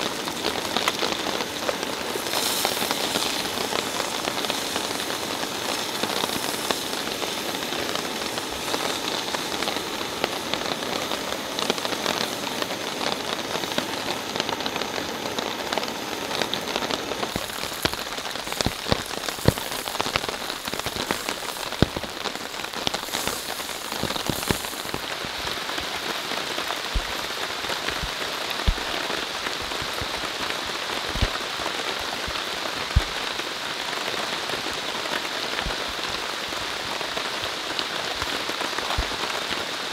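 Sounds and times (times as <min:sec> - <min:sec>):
rain on a tarp: 0:00.0 - 0:39.9.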